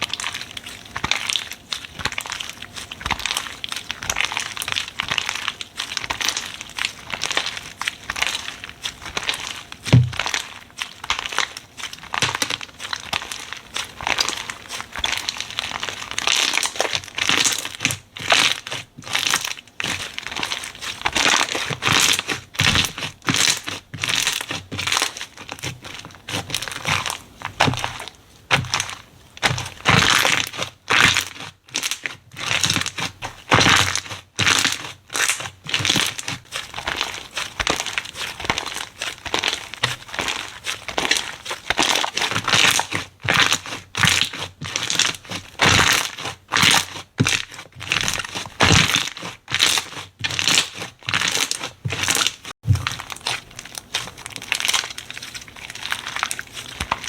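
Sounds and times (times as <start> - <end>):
slime squishing by hand: 0.0 - 57.0.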